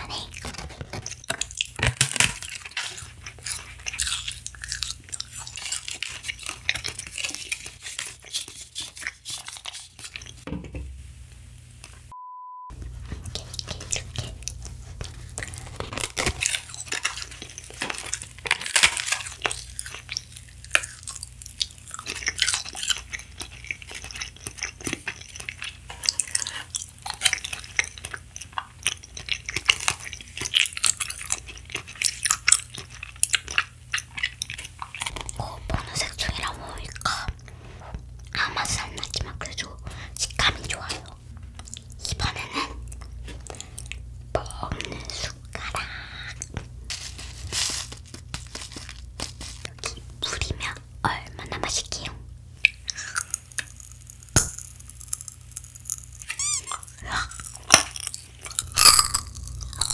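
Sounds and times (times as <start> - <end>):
crisp food crunching: 0.1 - 10.4, 13.0 - 50.8, 51.4 - 59.9.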